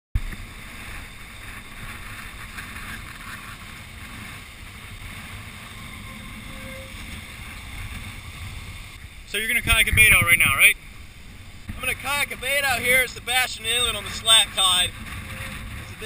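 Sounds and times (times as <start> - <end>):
breaking surf: 0.2 - 16.0
wind buffeting microphone: 0.2 - 16.0.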